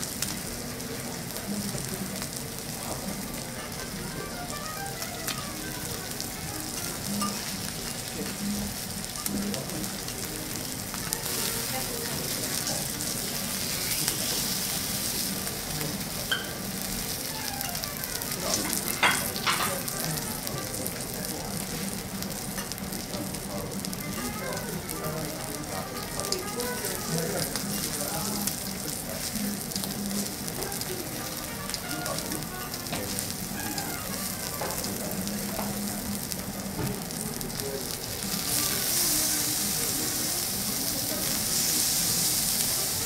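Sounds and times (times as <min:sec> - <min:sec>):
steak sizzling on a griddle: 0:00.0 - 0:43.0.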